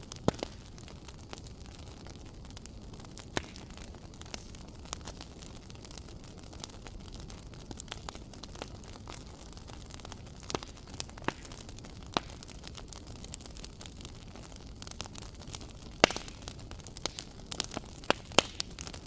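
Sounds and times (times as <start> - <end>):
fire popping and snapping: 0.0 - 19.0
low rumble of flames: 0.0 - 19.0.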